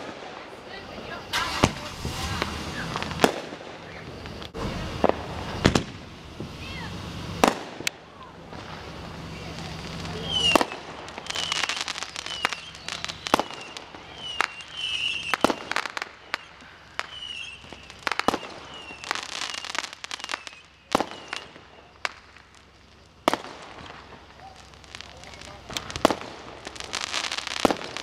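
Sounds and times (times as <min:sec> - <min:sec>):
fireworks bangs: 0:00.0 - 0:28.0
fireworks crackling: 0:00.0 - 0:28.0
fireworks whistles: 0:00.0 - 0:28.0.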